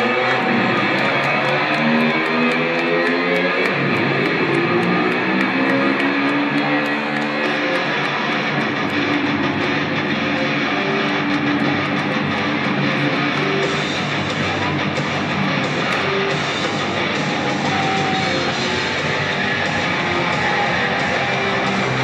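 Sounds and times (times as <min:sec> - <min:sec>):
loud electric guitar music: 0:00.0 - 0:22.0.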